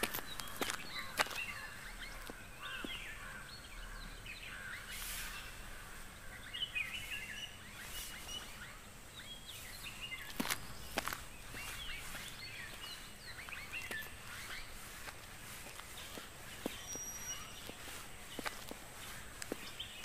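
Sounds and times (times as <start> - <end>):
birds chirping: 0.0 - 20.0
faint steady hiss: 0.0 - 20.0.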